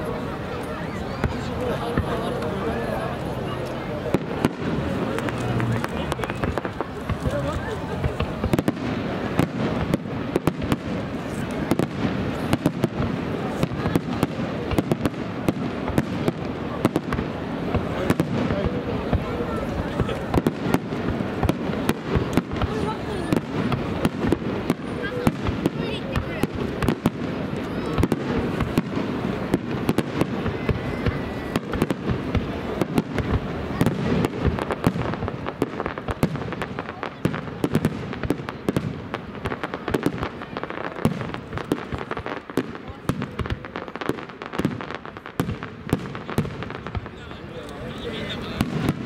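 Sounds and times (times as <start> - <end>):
continuous noisy background: 0.0 - 49.0
fireworks bursting: 0.0 - 49.0.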